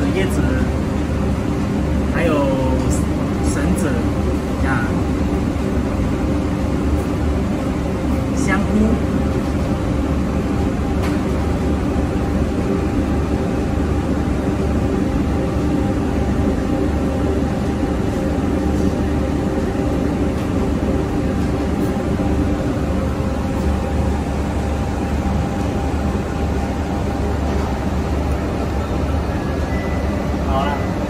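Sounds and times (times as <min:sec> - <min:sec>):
kitchen ventilation drone: 0:00.0 - 0:31.0.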